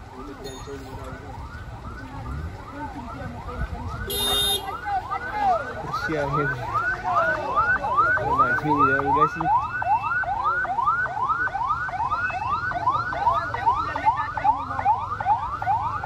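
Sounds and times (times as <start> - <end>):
vehicle alarm whooping: 0.1 - 16.0.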